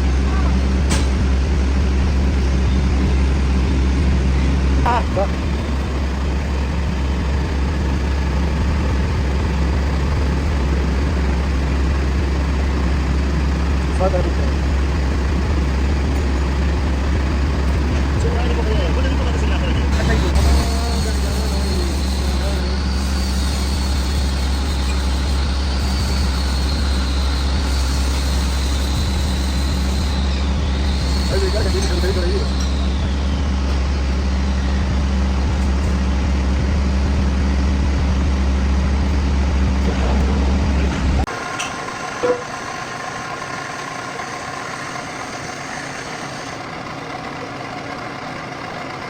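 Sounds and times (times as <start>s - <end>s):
faint high whine: 0.0s - 46.6s
metal lathe running: 0.0s - 49.0s.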